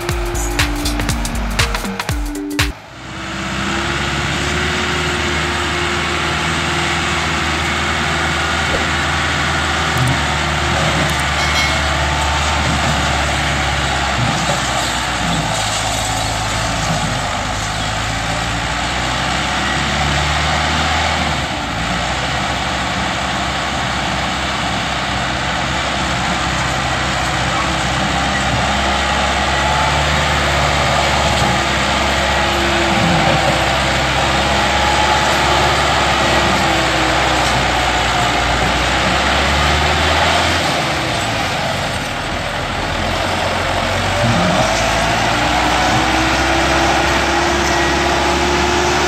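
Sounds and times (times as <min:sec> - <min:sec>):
excavator engine running: 0:00.0 - 0:49.0
tractor diesel engine under load: 0:02.7 - 0:49.0.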